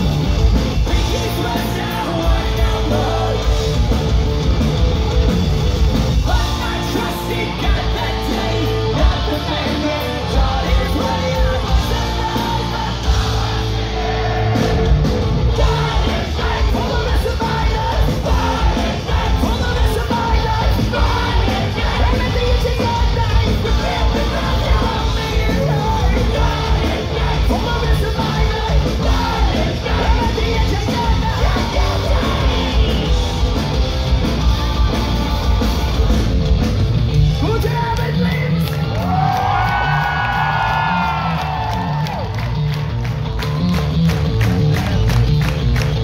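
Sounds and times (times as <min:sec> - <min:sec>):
punk rock band playing live: 0:00.0 - 0:46.0.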